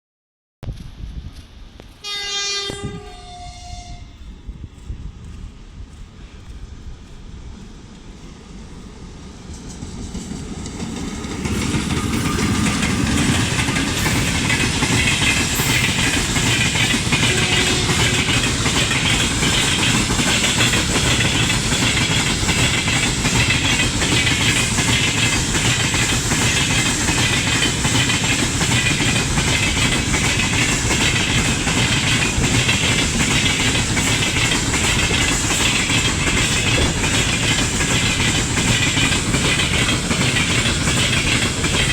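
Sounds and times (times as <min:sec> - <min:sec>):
freight train rolling past: 0:00.8 - 0:41.9
clickety-clack of wagon wheels: 0:04.8 - 0:41.9.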